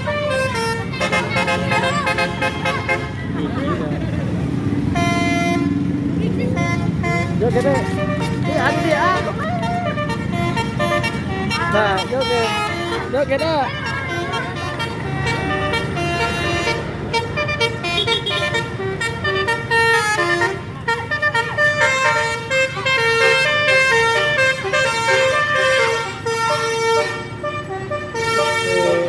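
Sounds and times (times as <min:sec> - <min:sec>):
bus engine running: 0:00.0 - 0:29.0
bus horn playing a melody: 0:00.0 - 0:29.0.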